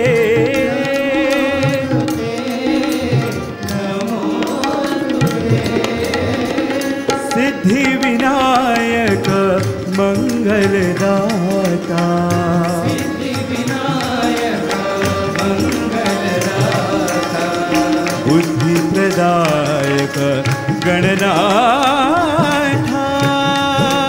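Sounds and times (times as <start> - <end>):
devotional music melody: 0.0 - 24.0
tabla: 0.0 - 24.0.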